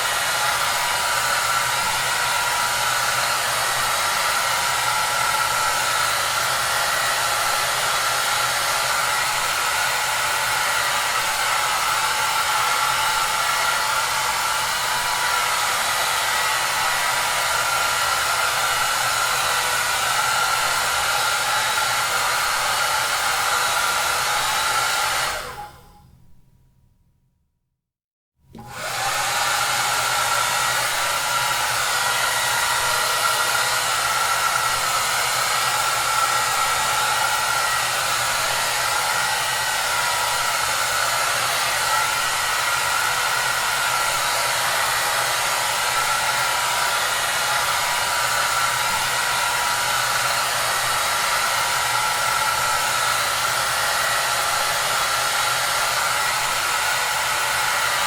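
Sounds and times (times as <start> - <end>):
hair dryer running: 0.0 - 26.0, 28.5 - 58.0.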